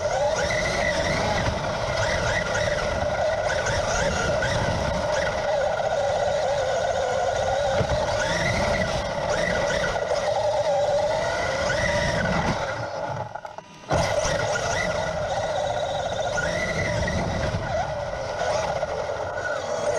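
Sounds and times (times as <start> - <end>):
electric motor whining: 0.0 - 19.9.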